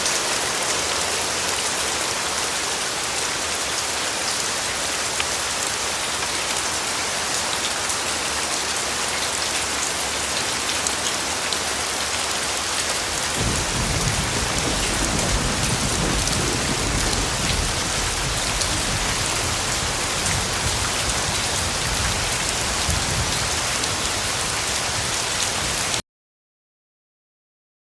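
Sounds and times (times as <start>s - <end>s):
rain pattering on hard surfaces: 0.0s - 26.0s.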